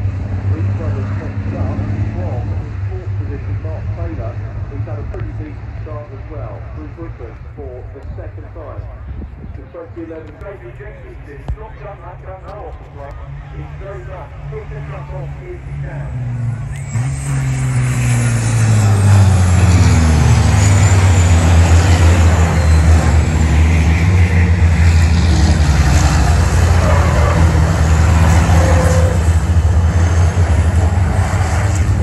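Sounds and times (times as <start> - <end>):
truck diesel engines roaring: 0.0 - 32.0.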